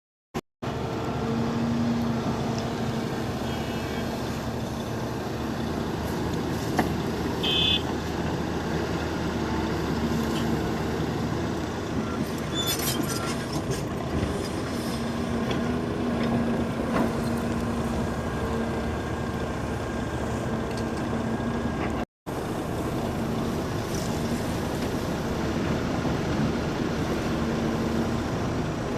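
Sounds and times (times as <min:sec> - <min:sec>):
heavy diesel engines running: 0:00.6 - 0:28.9.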